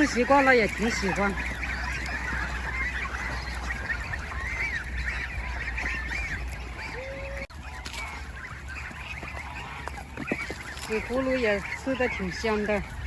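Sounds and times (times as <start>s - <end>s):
young geese calling: 0.0s - 13.0s.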